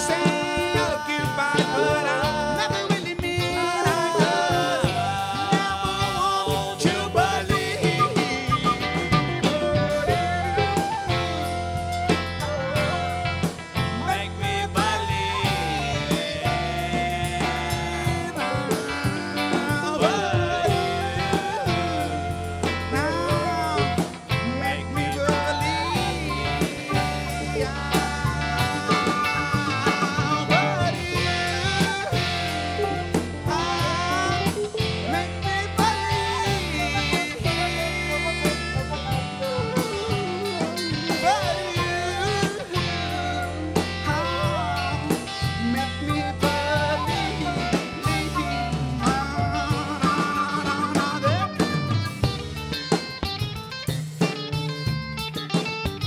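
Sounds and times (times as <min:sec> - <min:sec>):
drums with cymbal strokes: 0:00.0 - 0:56.0
electric bass: 0:00.0 - 0:56.0
electric guitar: 0:00.0 - 0:56.0
flute melody: 0:00.0 - 0:56.0.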